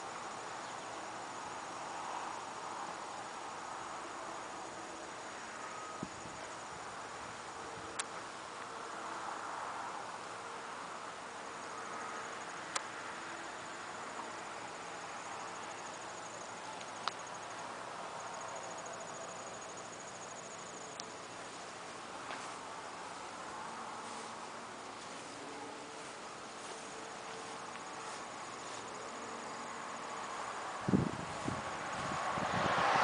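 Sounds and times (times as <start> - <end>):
insects trilling: 0.0 - 33.0
steady hiss: 0.0 - 33.0.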